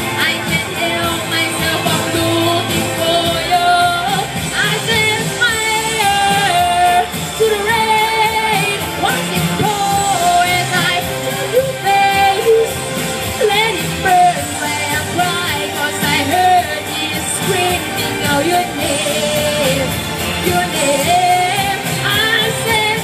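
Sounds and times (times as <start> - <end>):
pop-rock backing music: 0.0 - 23.0
woman singing into microphone: 0.0 - 23.0.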